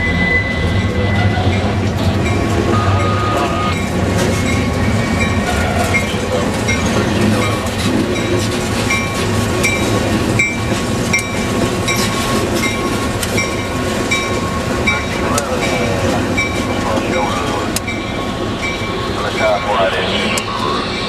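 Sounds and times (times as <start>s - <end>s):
railcars rolling on track: 0.0s - 21.0s.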